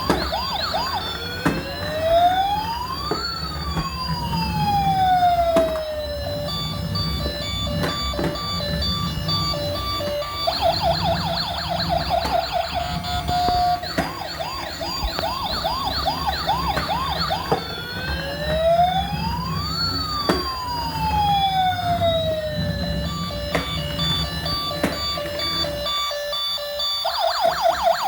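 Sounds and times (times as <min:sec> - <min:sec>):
electronic siren yelp and wail: 0:00.0 - 0:28.0
steady beeping tones: 0:00.0 - 0:28.0.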